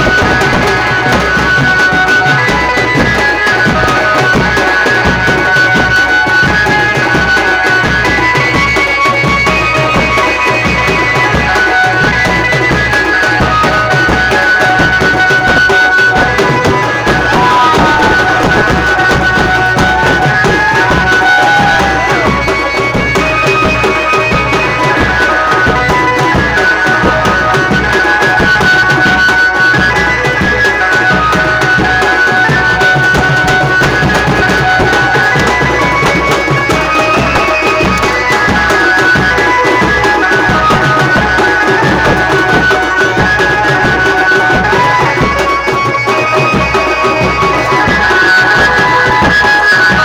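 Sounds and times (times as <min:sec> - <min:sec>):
dance music with drums: 0:00.0 - 0:50.0.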